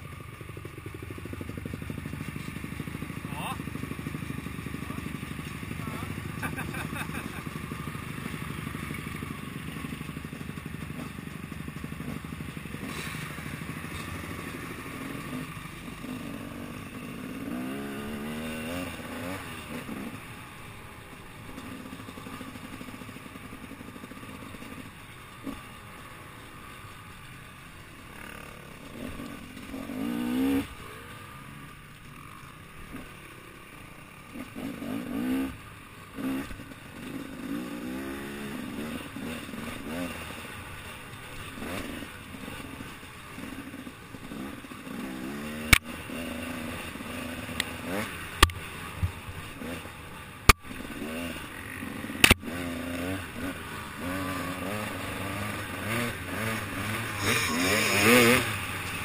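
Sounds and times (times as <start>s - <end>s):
dirt bike engine revving: 1.2s - 27.3s, 27.9s - 31.4s, 34.1s - 59.0s.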